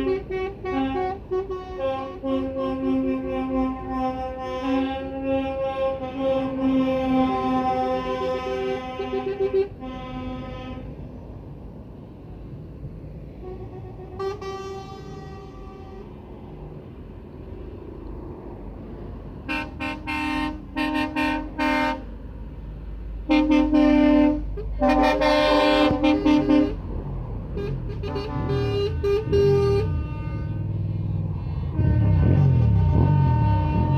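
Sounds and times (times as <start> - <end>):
truck horn blasts: 0.0 - 11.2, 13.3 - 16.2, 19.4 - 22.2, 23.2 - 33.9
traffic rumble: 0.0 - 33.9.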